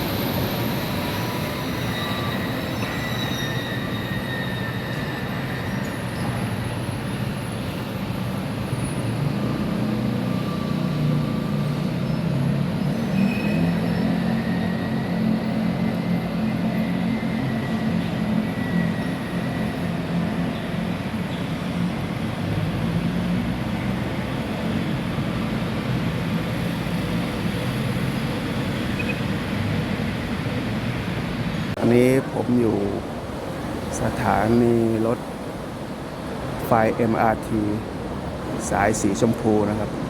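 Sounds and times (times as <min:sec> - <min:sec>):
electric train rumbling: 0:00.0 - 0:40.0.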